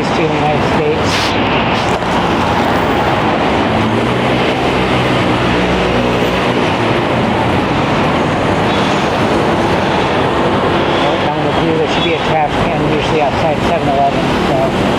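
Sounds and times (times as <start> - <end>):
city traffic noise: 0.0 - 14.9
elevated train running past: 0.0 - 14.9.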